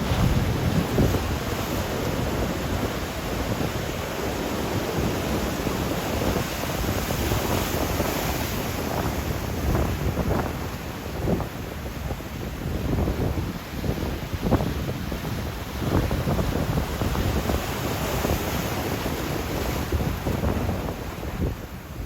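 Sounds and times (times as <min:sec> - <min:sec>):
surf breaking on a beach: 0:00.0 - 0:22.0
wind buffeting the microphone: 0:00.0 - 0:22.0.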